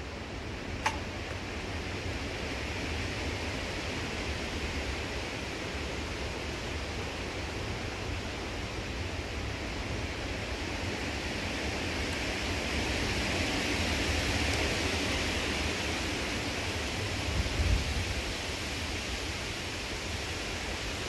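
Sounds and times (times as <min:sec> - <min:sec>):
wind rushing through trees: 0:00.0 - 0:21.0
wind rumble on microphone: 0:01.4 - 0:21.0.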